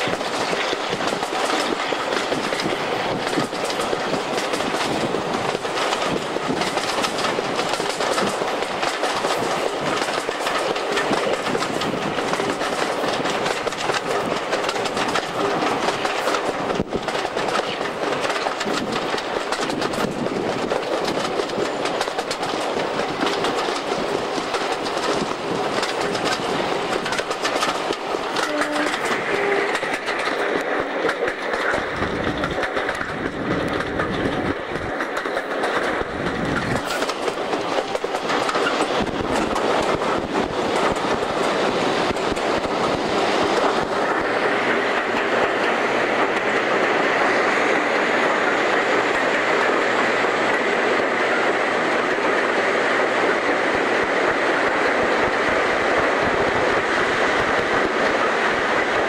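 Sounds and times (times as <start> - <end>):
train wheels clattering on track: 0.0 - 59.0.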